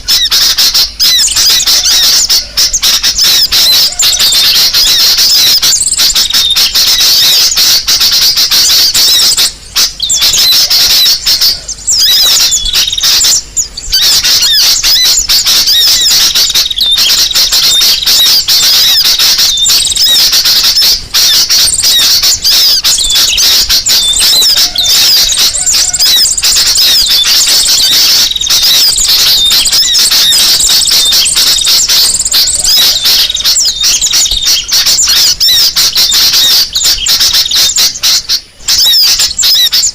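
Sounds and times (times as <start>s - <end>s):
high-pitched bird twittering: 0.0s - 39.9s.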